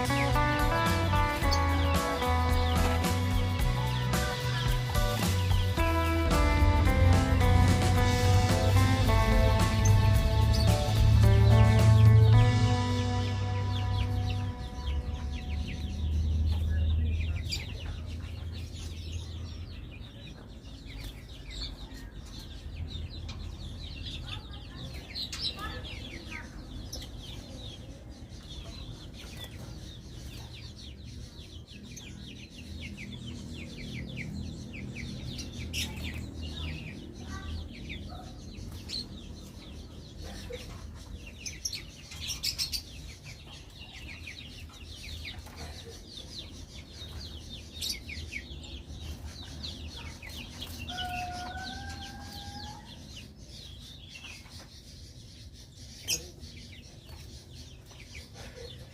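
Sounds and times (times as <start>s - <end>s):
chickens clucking: 0.0s - 58.9s
small birds chirping: 0.0s - 58.9s.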